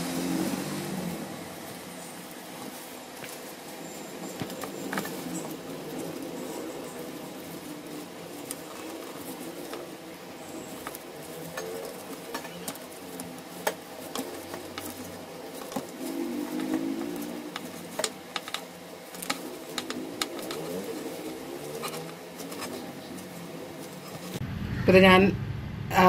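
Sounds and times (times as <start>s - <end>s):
plastic lining rustling: 0.6s - 24.4s.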